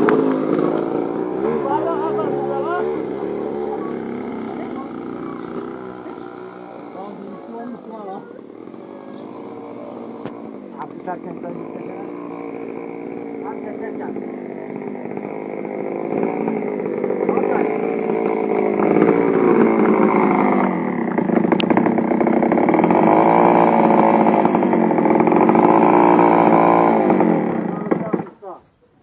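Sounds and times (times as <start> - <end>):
two-stroke engine revving: 0.0 - 28.6.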